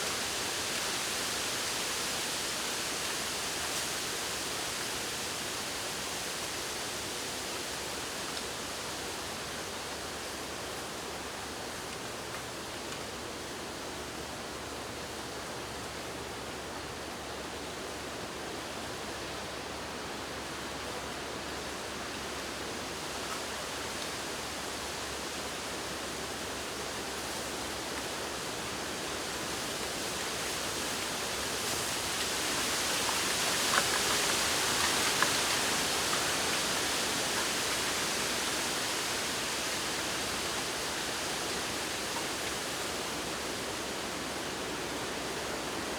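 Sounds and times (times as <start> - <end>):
wind through bamboo leaves: 0.0 - 45.9.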